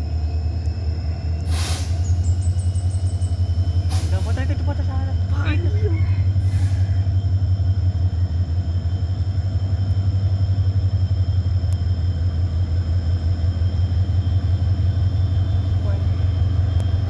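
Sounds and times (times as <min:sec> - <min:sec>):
locomotive diesel engine rumble: 0:00.0 - 0:17.0.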